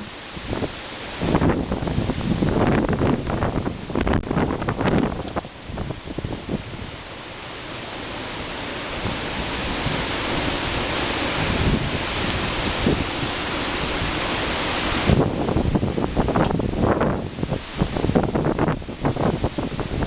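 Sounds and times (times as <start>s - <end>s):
storm wind rushing through trees: 0.0s - 20.0s.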